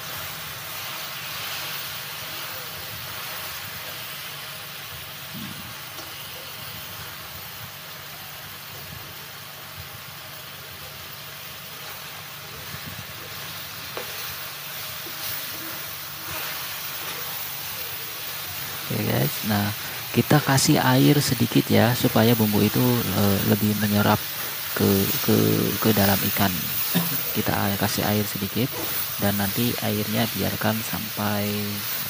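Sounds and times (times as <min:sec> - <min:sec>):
fish sizzling in a wok: 0:00.0 - 0:32.0.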